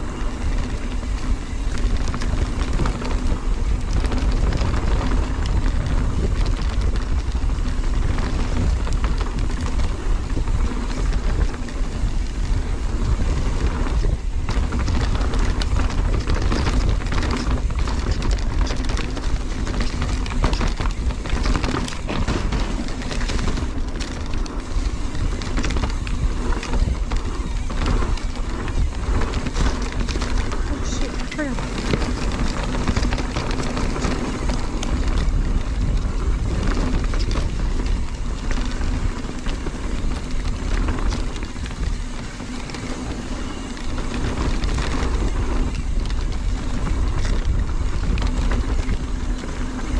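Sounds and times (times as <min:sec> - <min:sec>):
bike rattling over bumps: 0:00.0 - 0:49.9
tyres rolling on dirt: 0:00.0 - 0:49.9
wind rumble on microphone: 0:00.0 - 0:49.9.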